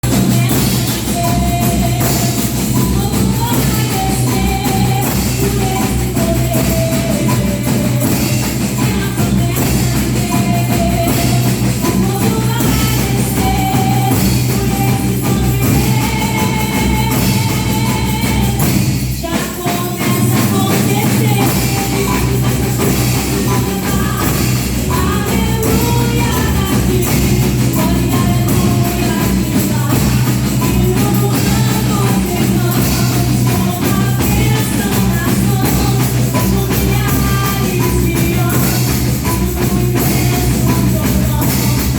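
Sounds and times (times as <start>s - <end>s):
cymbals: 0.0s - 41.9s
melody above drums: 0.0s - 41.9s
percussion band drumming: 0.0s - 41.9s.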